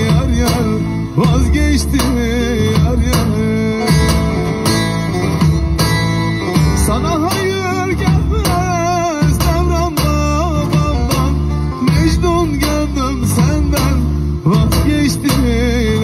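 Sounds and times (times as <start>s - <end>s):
wavering melody with vibrato: 0.0s - 14.8s
bass notes: 0.0s - 16.0s
plucked strings: 0.0s - 16.0s.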